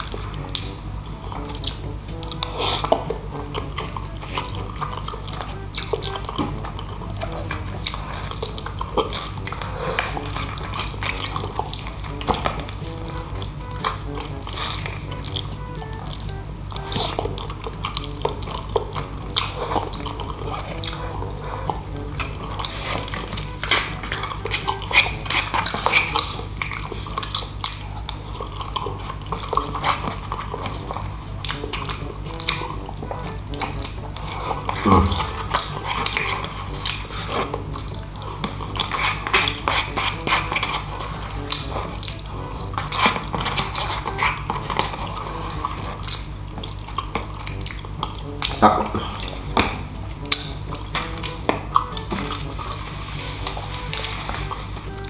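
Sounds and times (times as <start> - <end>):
background music: 0.0 - 55.0
spaghetti slurping and chewing: 0.0 - 55.0.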